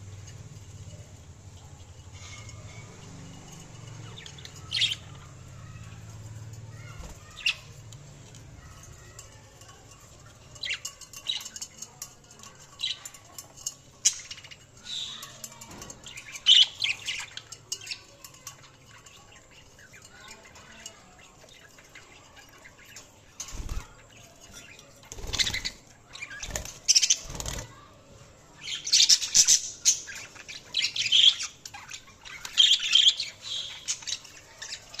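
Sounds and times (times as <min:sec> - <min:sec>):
budgies chirping and chattering: 0:00.0 - 0:35.0.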